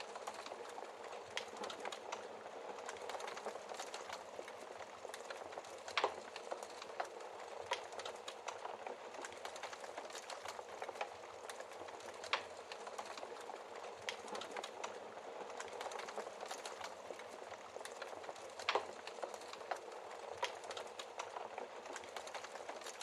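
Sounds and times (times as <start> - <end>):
constant hiss: 0.0 - 23.0
wood fire crackling: 0.0 - 23.0.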